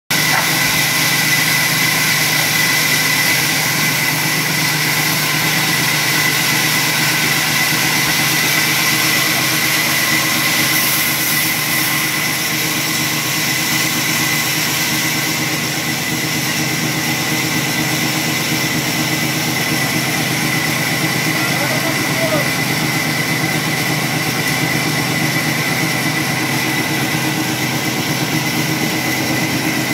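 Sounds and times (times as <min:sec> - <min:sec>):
saw machinery humming and whining: 0:00.1 - 0:29.9.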